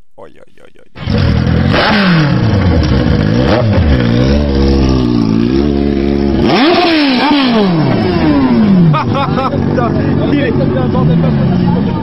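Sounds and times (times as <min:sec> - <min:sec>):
motorcycle engine revving: 0:01.0 - 0:12.0
second motorcycle engine: 0:01.0 - 0:12.0.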